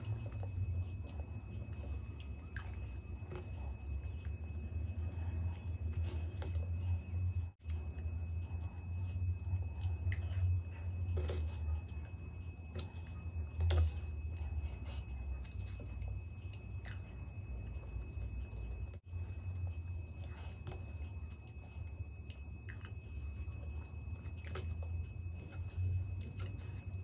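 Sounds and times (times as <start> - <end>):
soft wet chewing: 0.0 - 27.0
steady low hum: 0.0 - 27.0.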